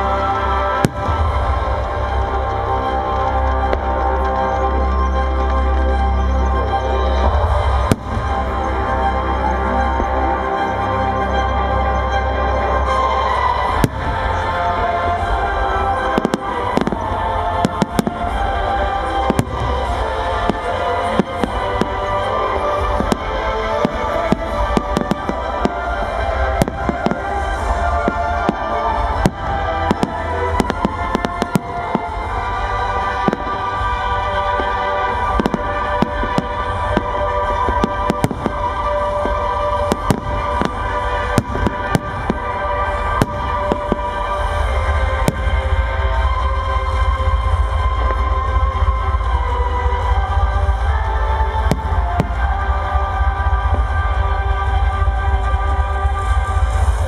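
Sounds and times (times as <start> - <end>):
fireworks bursts and crackling bangs: 0.0 - 57.0
music with long held notes: 0.0 - 57.0.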